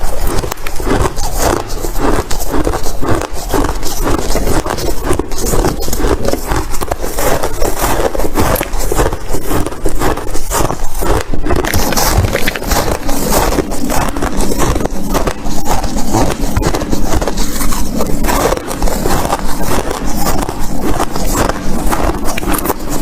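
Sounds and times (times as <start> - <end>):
ice crunching: 0.0 - 23.0.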